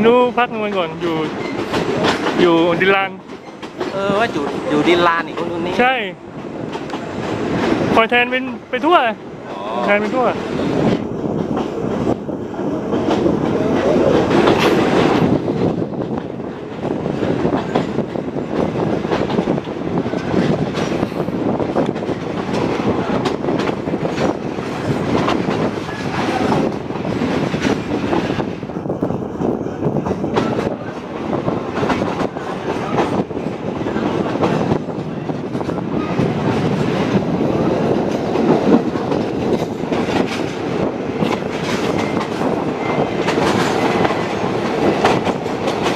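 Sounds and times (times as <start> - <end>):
wheels clacking over rail joints: 0.0 - 28.7, 30.0 - 45.9
train coach rumbling and rattling: 0.0 - 45.9.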